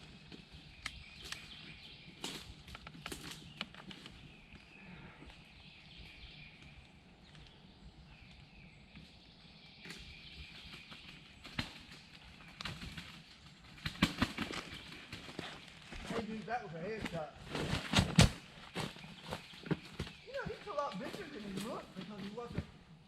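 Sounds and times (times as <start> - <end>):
faint birdsong: 0.0 - 23.0.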